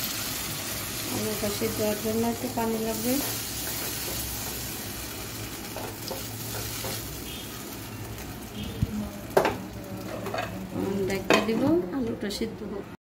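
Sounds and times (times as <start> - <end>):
food sizzling in a frying pan: 0.0 - 12.3.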